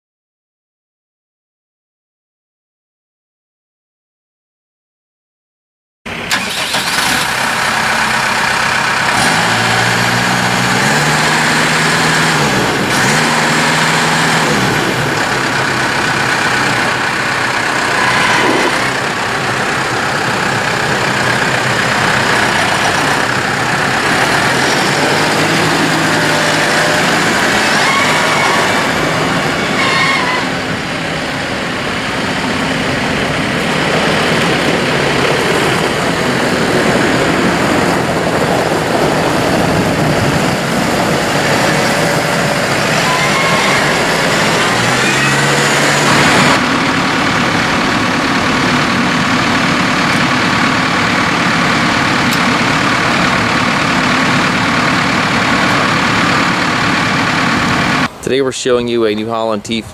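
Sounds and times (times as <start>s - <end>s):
tractor diesel engine running: 6.1s - 59.9s.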